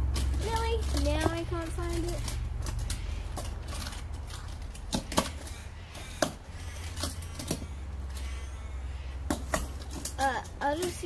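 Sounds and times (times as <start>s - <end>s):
toy cars clattering: 0.0s - 8.6s, 9.3s - 11.0s
steady low rumble: 0.0s - 11.0s.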